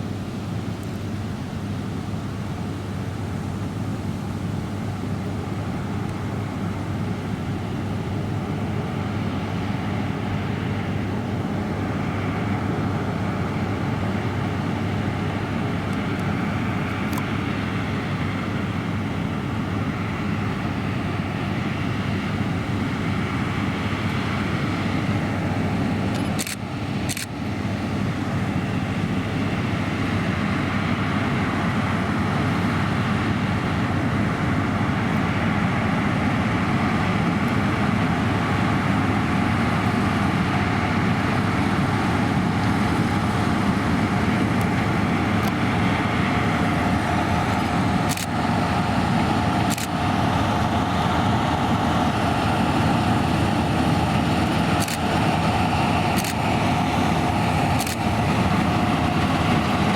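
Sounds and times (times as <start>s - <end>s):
combine harvester running: 0.0s - 59.9s
steady machine whine: 0.0s - 59.9s.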